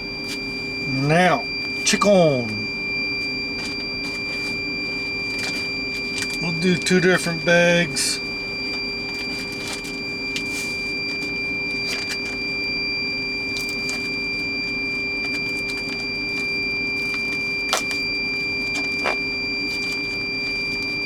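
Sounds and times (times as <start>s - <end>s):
machine hum with high whine: 0.0s - 21.0s.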